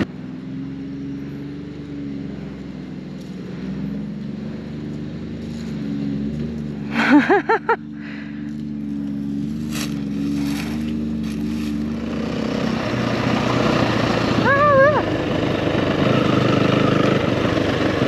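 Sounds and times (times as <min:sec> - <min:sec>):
dirt bike engines idling: 0:00.0 - 0:18.0.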